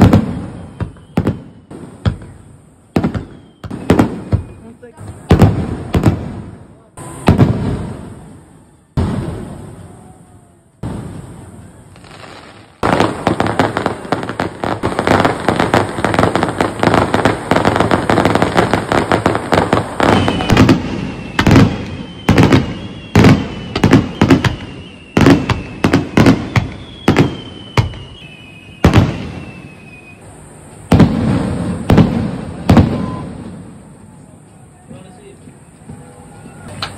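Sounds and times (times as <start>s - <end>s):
fireworks crackling and banging: 0.0s - 36.9s
fireworks whistling: 0.0s - 36.9s.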